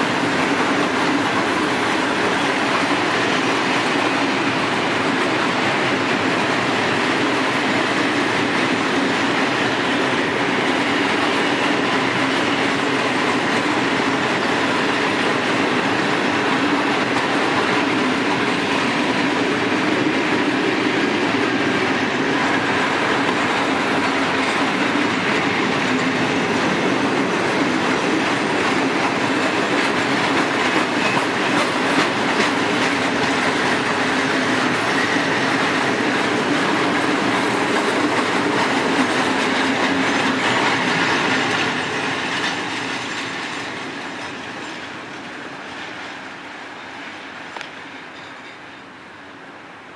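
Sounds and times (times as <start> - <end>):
wheels clattering on rails: 0.0 - 49.0.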